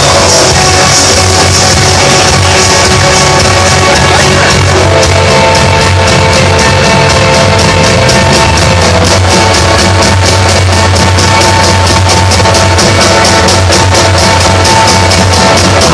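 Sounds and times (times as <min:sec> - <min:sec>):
fast cymbal rhythm: 0:00.0 - 0:15.9
held electric guitar notes: 0:00.0 - 0:15.9
low bass tone: 0:00.0 - 0:15.9.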